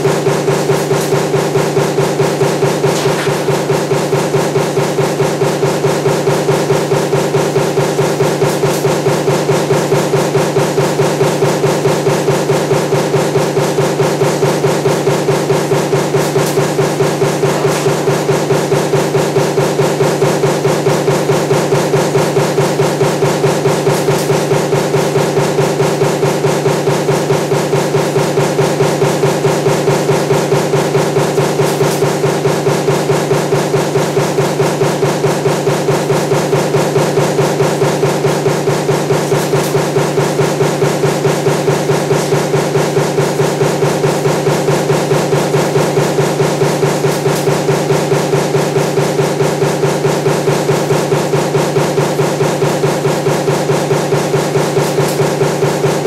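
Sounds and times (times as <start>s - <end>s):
machine hum: 0.0s - 56.0s
stamping press punching: 0.0s - 56.0s.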